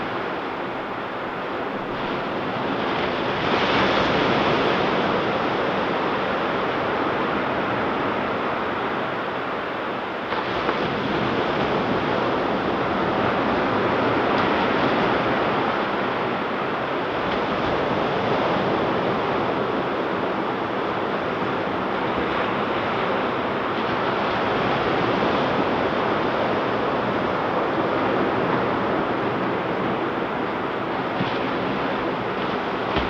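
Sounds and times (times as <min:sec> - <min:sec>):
ocean surf breaking on beach: 0:00.0 - 0:33.0.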